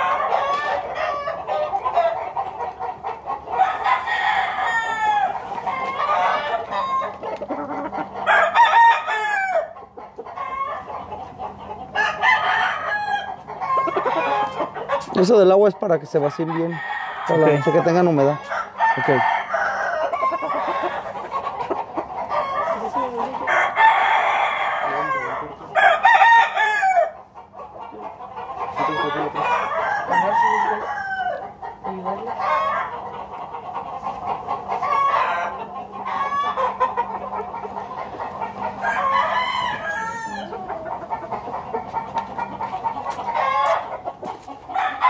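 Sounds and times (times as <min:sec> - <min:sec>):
chicken clucking: 0:00.0 - 0:45.0
roosters crowing: 0:00.0 - 0:45.0.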